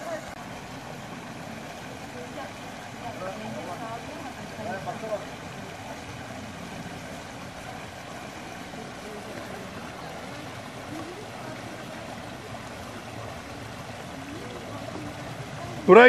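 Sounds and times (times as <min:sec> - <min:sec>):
stream running over rocks: 0:00.0 - 0:16.0
faint voices of people: 0:01.7 - 0:16.0.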